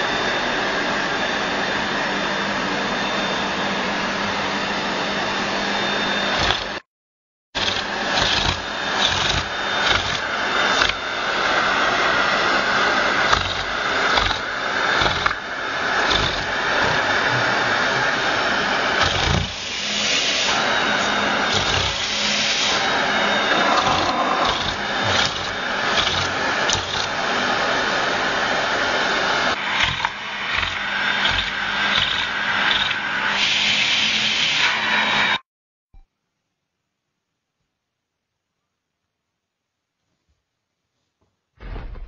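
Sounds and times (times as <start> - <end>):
vacuum cleaner running: 0.0 - 6.8, 7.6 - 35.4.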